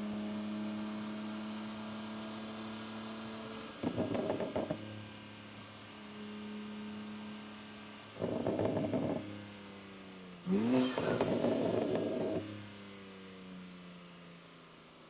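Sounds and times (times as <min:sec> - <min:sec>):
car engine droning: 0:00.0 - 0:13.6.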